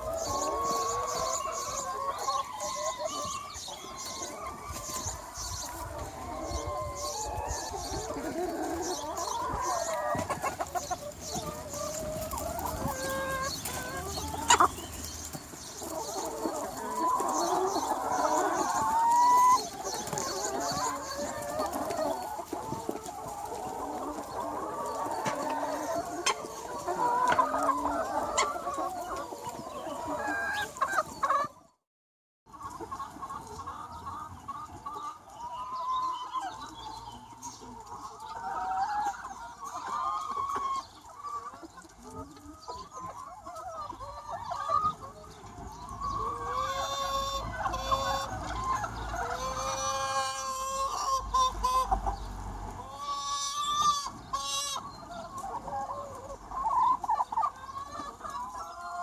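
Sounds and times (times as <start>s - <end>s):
hens clucking: 0.0s - 31.8s, 32.5s - 59.0s.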